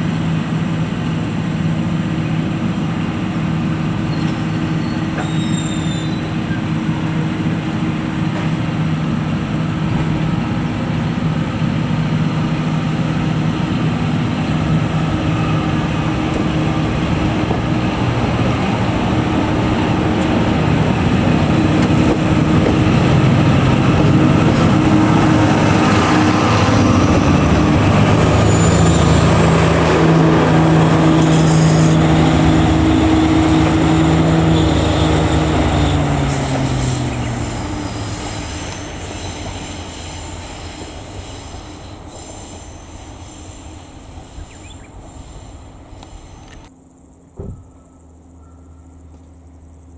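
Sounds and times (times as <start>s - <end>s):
train carriages rumbling: 0.0s - 46.7s
diesel locomotive engine hum: 0.0s - 49.9s.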